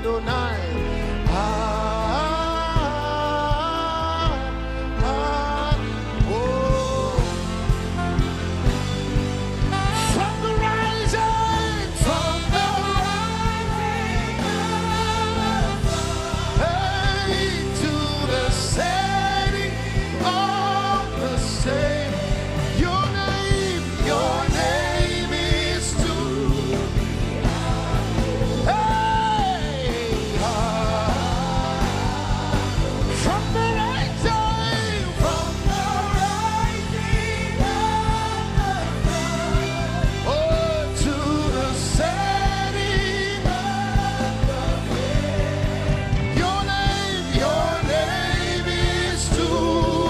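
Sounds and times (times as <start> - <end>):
band playing: 0.0 - 50.0
steady drum beat: 0.2 - 50.0.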